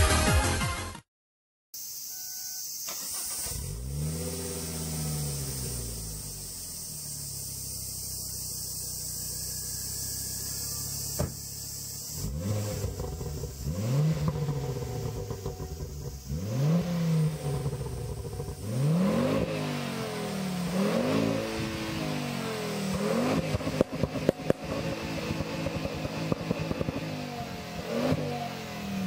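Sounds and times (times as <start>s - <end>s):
car engine revving: 2.9s - 29.0s.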